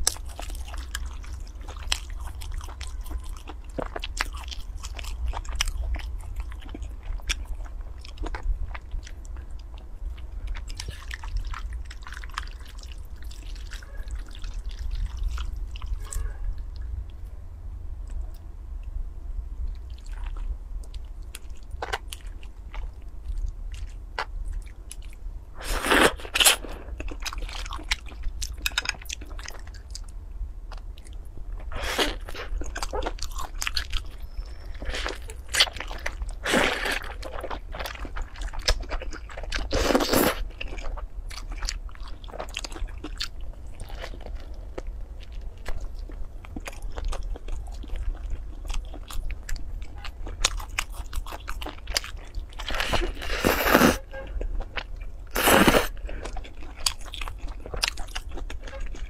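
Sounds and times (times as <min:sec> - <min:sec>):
wet chewing of noodles: 0:00.0 - 0:16.9, 0:19.7 - 0:59.0
steady low hum: 0:00.0 - 0:59.0.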